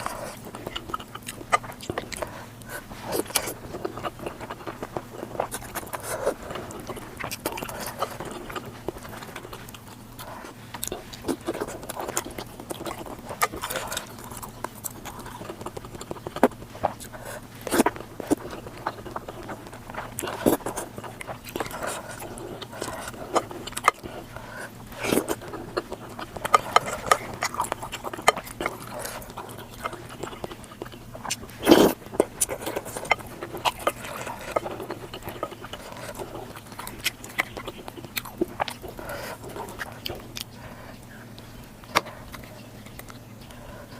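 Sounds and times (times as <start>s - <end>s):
chewing and biting: 0.0s - 43.9s
lip-smacking: 0.0s - 43.9s.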